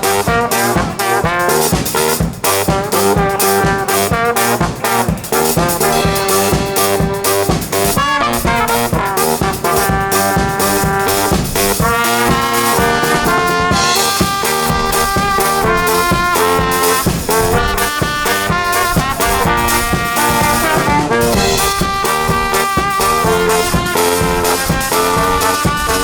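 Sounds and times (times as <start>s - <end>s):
horns playing melody: 0.0s - 26.0s
steady drum beat: 0.0s - 26.0s.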